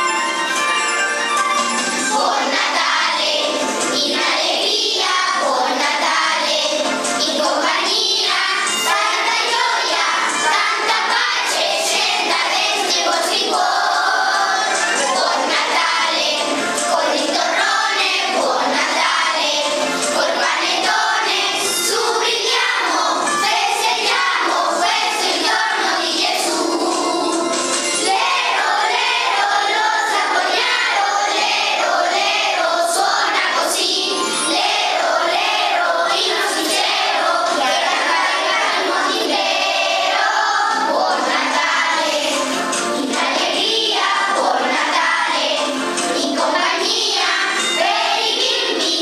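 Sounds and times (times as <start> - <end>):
children singing in chorus: 1.9 - 49.0.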